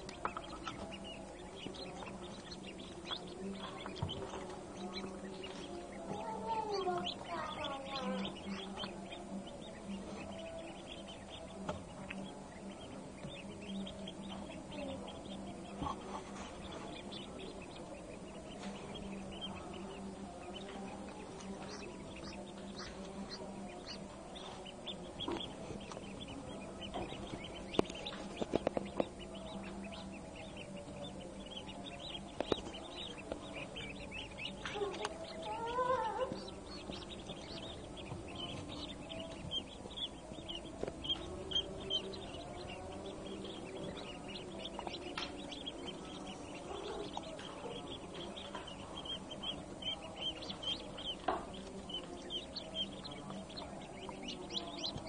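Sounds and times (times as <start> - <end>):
ducklings peeping: 0.0 - 55.0
steady low hum: 0.0 - 55.0.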